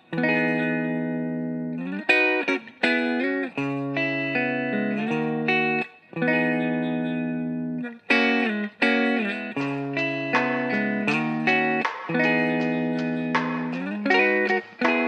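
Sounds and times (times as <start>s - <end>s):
distorted guitar music: 0.0s - 15.0s.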